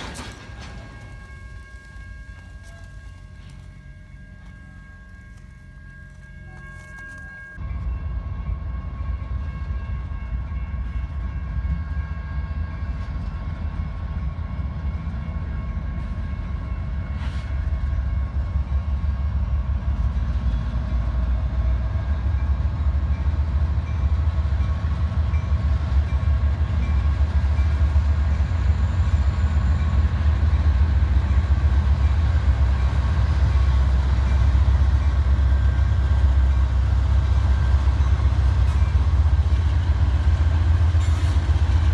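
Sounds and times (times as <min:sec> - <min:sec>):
diesel locomotives rumbling: 0:00.0 - 0:41.9.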